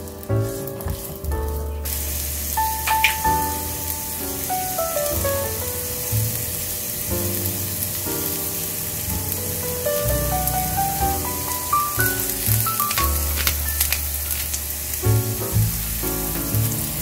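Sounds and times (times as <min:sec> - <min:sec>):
light background music: 0:00.0 - 0:17.0
carrots sizzling in oil: 0:01.9 - 0:17.0.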